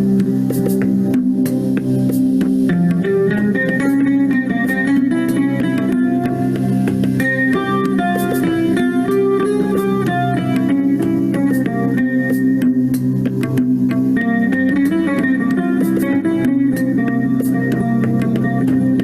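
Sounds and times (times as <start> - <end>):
instrumental guitar music: 0.0 - 19.0.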